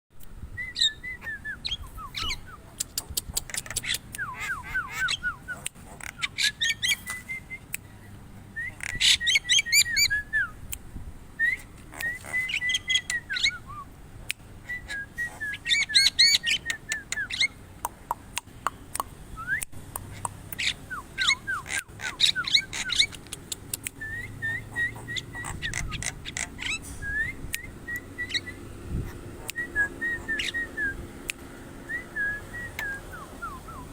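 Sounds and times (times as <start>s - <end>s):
bird whistling and chattering: 0.6s - 10.6s, 11.4s - 13.9s, 14.6s - 17.6s, 19.4s - 31.0s, 31.9s - 33.9s.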